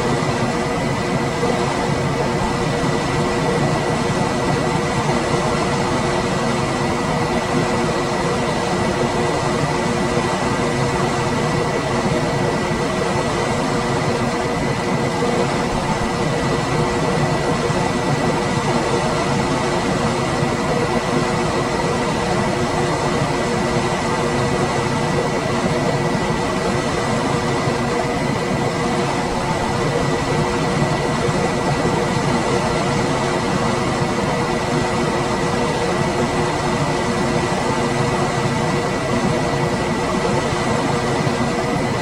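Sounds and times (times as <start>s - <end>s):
high constant whine: 0.0s - 42.0s.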